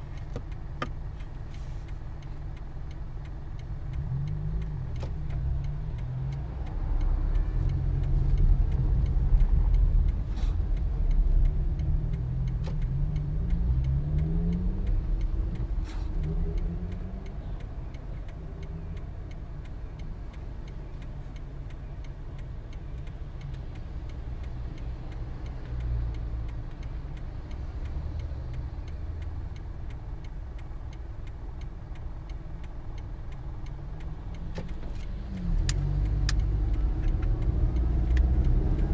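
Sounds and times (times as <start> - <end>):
road rumble: 0.0 - 38.9
car engine accelerating: 3.5 - 21.7, 23.3 - 38.9.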